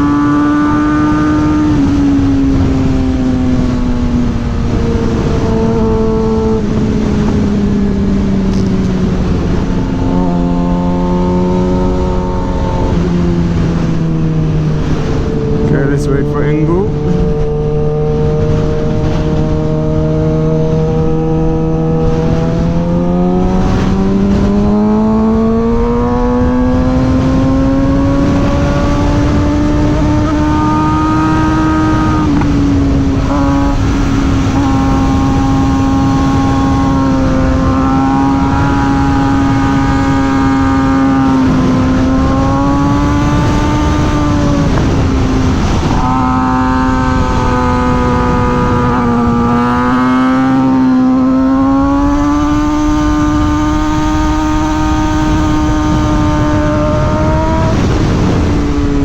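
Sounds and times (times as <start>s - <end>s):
motorcycle engine running: 0.0s - 59.0s
wind rushing: 0.0s - 59.0s.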